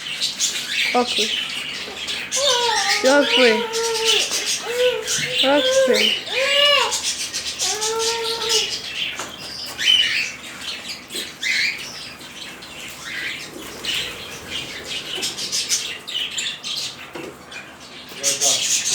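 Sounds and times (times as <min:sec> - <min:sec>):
lovebirds chirping: 0:00.0 - 0:18.9.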